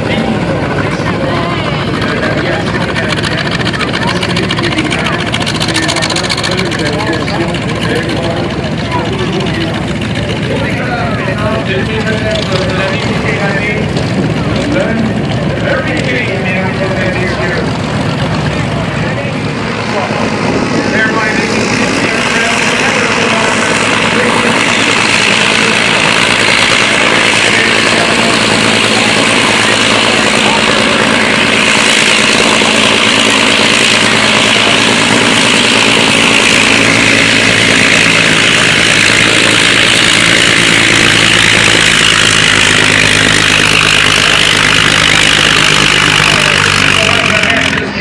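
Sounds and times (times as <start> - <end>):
aircraft engine running: 0.0 - 48.0.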